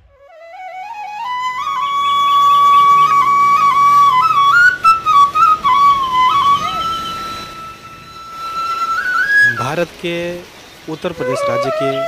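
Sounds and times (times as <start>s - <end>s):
flute melody: 0.0s - 9.9s, 11.0s - 12.0s.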